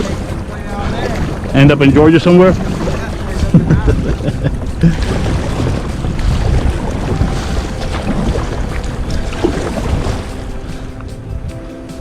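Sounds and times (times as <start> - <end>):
water moving around kayak: 0.0 - 12.0
wind buffeting microphone: 0.0 - 12.0.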